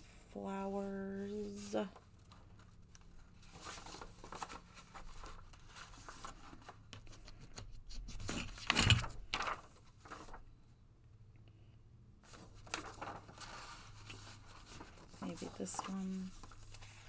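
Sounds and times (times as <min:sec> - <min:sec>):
paper rustling: 0:01.5 - 0:10.4, 0:12.2 - 0:17.0.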